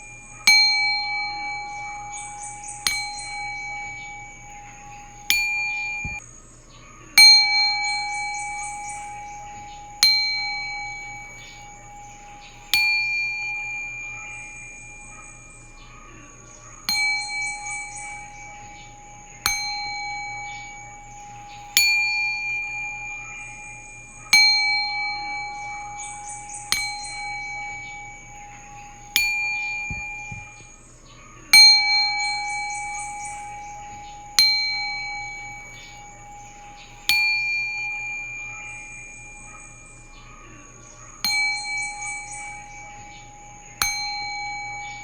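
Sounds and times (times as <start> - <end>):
singing bowl struck: 0.0 - 6.2, 7.2 - 45.0
light high tinkle: 0.0 - 45.0.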